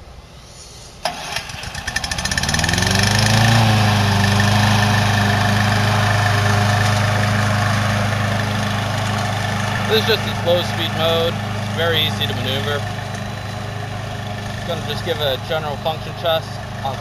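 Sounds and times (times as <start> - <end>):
mower engine starting and running: 1.0 - 17.0.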